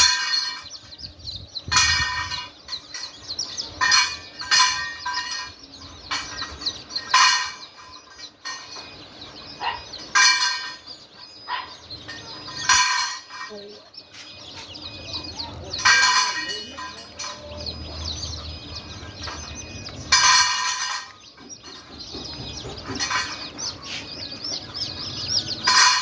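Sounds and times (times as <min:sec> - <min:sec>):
chickens calling shrilly: 0:00.0 - 0:26.0
chicks peeping: 0:00.0 - 0:26.0.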